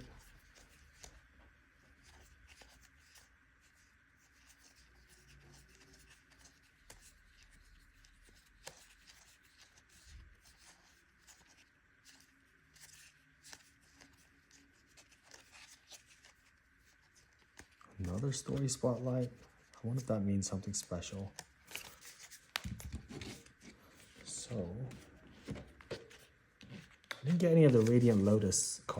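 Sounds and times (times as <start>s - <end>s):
trading cards rustling and clicking: 4.4s - 28.6s.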